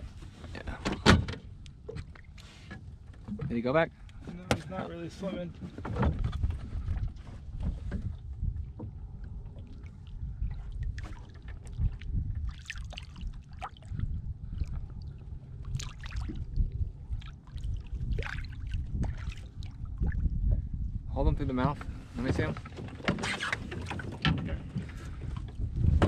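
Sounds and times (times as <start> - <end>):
water splashing against boat: 0.0 - 20.7, 21.5 - 26.0
wind rumble on microphone: 0.0 - 26.0.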